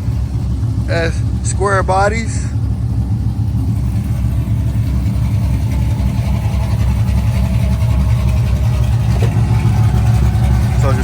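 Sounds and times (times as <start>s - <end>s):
truck engine idling with low rumble: 0.0s - 11.0s.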